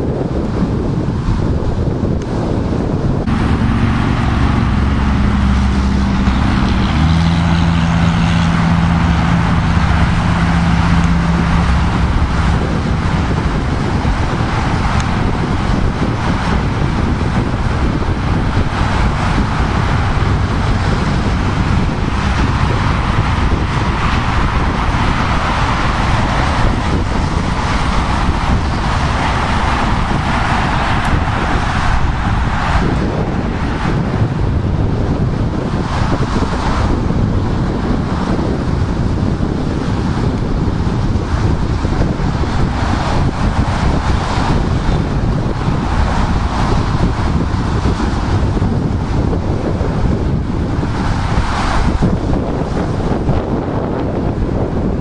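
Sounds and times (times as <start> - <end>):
low engine hum: 0.0 - 55.0
tyres and wind rushing: 0.0 - 55.0.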